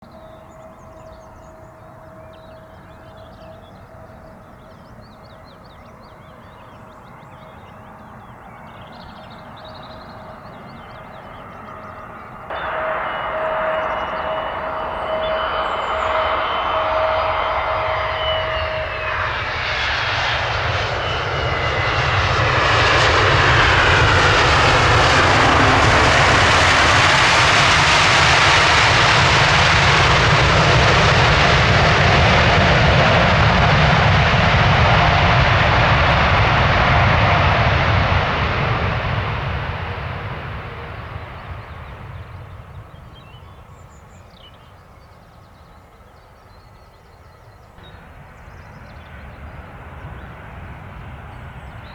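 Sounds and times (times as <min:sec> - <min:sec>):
jet engines passing overhead: 0:00.0 - 0:51.9.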